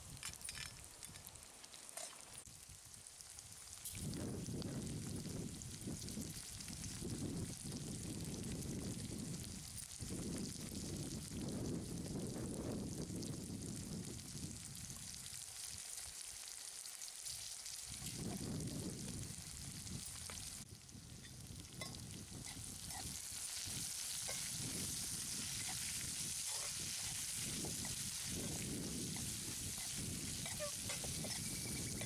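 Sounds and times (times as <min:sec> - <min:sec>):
vegetables sizzling in oil: 0:00.0 - 0:32.0.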